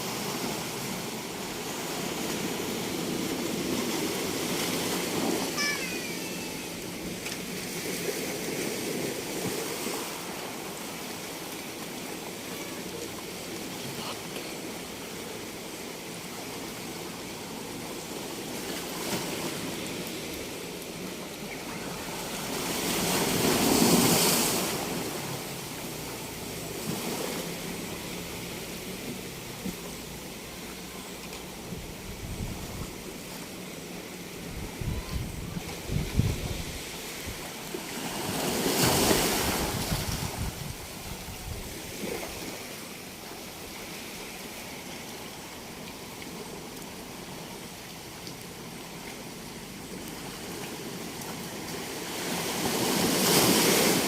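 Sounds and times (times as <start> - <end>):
ocean waves crashing: 0.0 - 54.0
surf washing back: 0.0 - 54.0.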